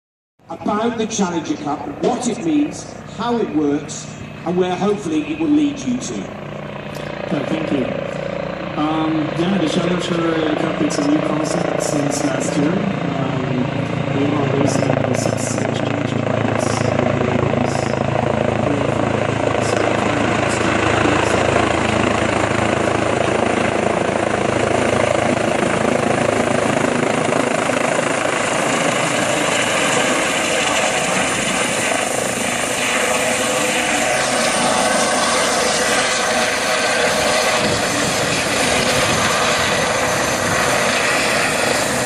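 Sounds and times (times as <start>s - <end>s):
helicopter rotor and turbine noise: 0.4s - 42.0s.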